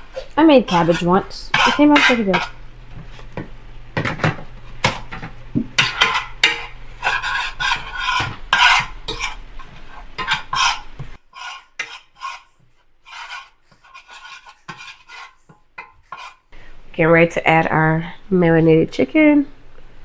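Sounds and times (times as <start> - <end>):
low background hum: 0.0 - 11.2, 11.8 - 20.0
spoon scraping and stirring in pot: 0.0 - 16.5.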